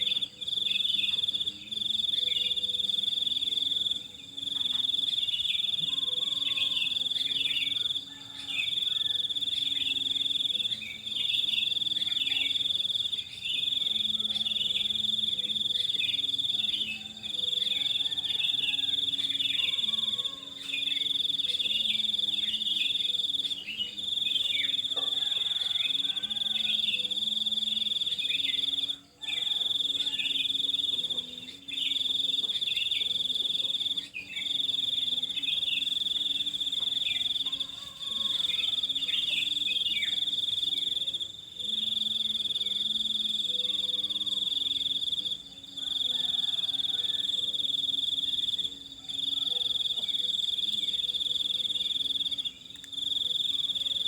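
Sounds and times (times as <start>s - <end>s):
shrill insect trill: 0.0s - 54.0s.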